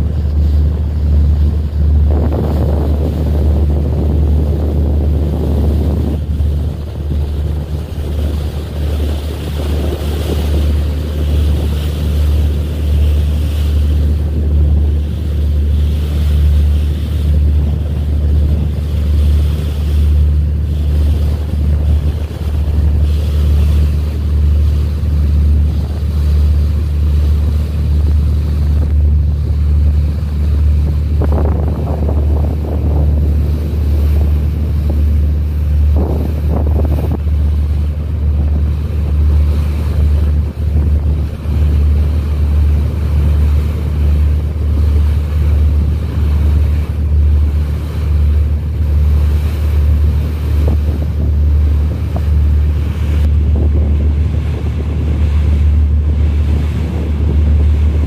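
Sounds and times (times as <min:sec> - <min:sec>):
boat engine droning: 0:00.0 - 0:58.0
sea water rushing: 0:00.0 - 0:58.0
wind buffeting microphone: 0:00.0 - 0:58.0.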